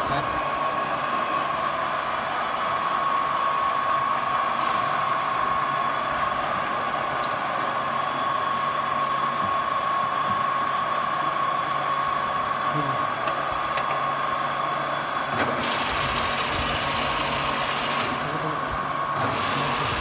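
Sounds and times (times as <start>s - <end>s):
high-pitched machine whine: 0.0s - 20.0s
milling machine humming: 0.0s - 20.0s.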